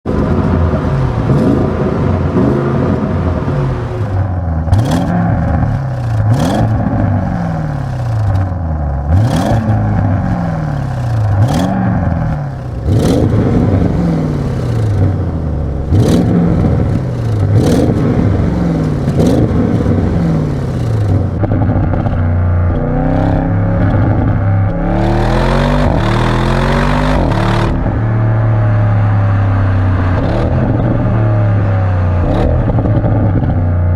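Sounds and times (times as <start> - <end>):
car engine revving and accelerating: 0.0 - 33.9
sharp exhaust cracks: 0.1 - 33.9.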